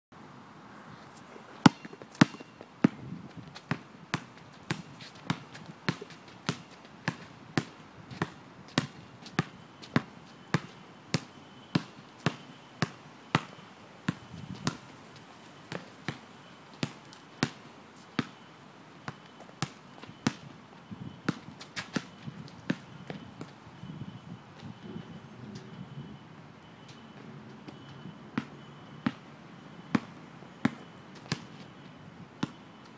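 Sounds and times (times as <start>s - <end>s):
basketball dribbling on asphalt: 1.6s - 18.5s, 19.1s - 26.0s, 26.8s - 32.9s.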